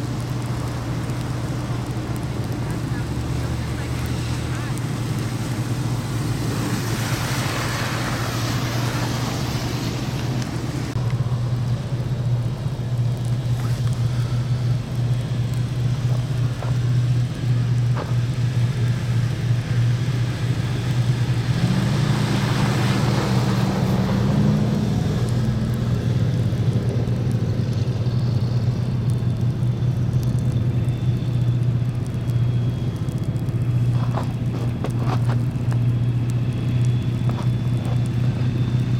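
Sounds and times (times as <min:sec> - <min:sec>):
low engine hum: 0:00.0 - 0:38.9
vehicles passing on road: 0:00.0 - 0:38.9.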